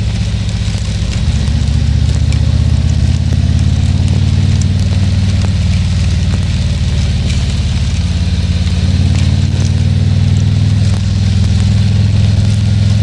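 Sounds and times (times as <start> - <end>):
motorcycle engine running: 0.0 - 13.0
steady hiss: 0.0 - 13.0.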